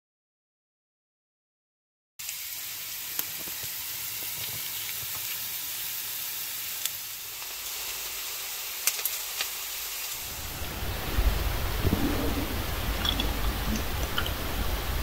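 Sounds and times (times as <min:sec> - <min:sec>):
garlic sizzling in oil: 0:02.2 - 0:15.0.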